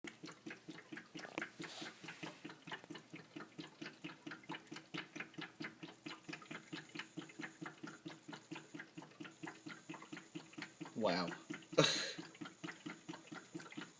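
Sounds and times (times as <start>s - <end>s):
water tank glugging: 0.1s - 13.9s.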